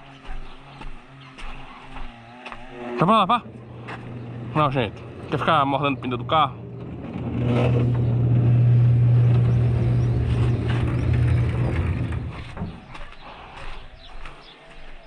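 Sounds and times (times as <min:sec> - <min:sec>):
vehicle engine humming: 0:00.0 - 0:13.2.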